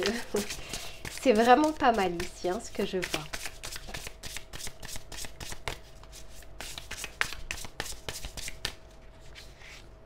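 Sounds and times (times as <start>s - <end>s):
cards being shuffled: 0.0s - 9.9s
soft rustle of cards: 0.0s - 10.0s.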